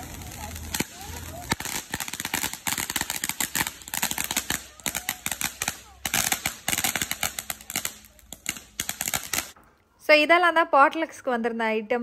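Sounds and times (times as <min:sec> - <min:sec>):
firecrackers popping: 0:00.0 - 0:09.7.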